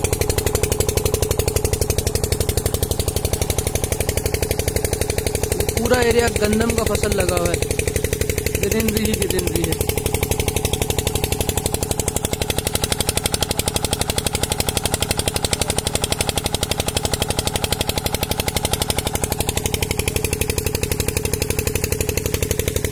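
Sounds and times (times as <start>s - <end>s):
diesel engine chugging: 0.0s - 22.9s.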